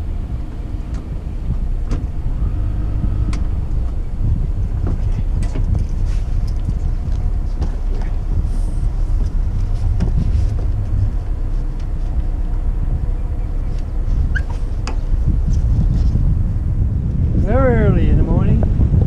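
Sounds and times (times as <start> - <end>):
boat engine idling: 0.0 - 18.2.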